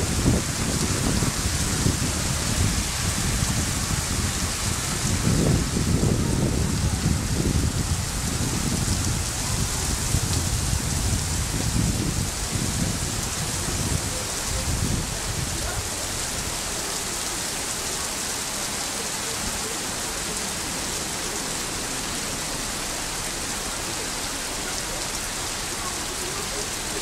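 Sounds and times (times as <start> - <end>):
heavy rain hiss: 0.0 - 27.0.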